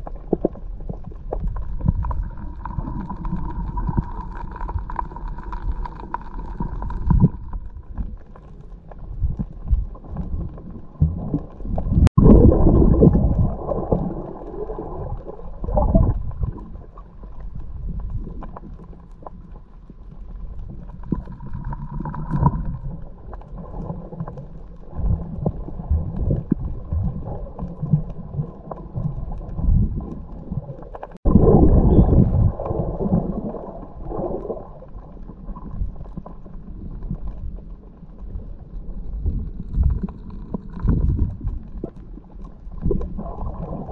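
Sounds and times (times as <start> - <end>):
underwater rumble of moving water: 0.0 - 43.9.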